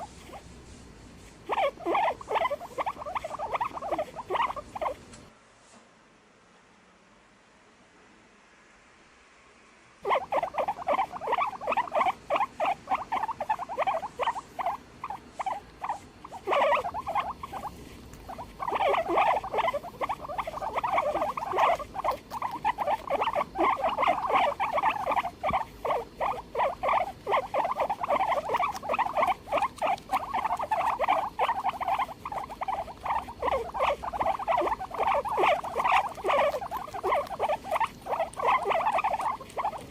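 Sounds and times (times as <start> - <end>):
guinea pig squeaking: 0.0 - 0.5, 1.4 - 5.0, 10.0 - 39.9.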